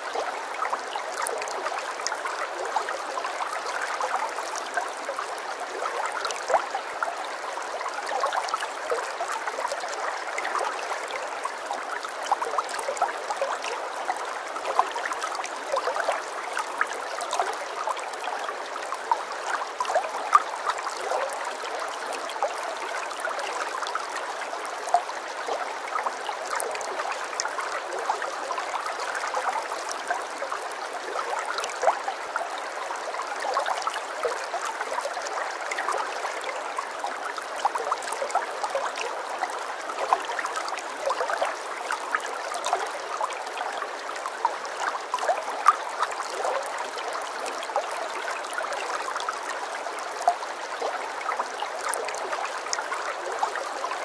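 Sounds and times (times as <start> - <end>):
stream trickling and splashing: 0.0 - 54.0.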